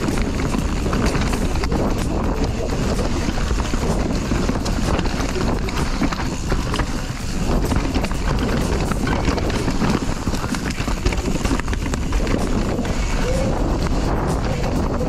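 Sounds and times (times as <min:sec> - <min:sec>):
bike knocks and rattles: 0:00.0 - 0:15.0
bike tyres rumbling over dirt: 0:00.0 - 0:15.0
wind buffeting microphone: 0:00.0 - 0:15.0.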